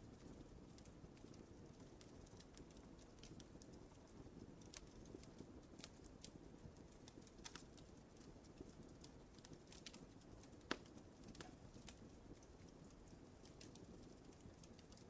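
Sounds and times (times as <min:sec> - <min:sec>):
low steady fire rumble: 0:00.0 - 0:15.0
wood fire crackling: 0:00.0 - 0:15.0.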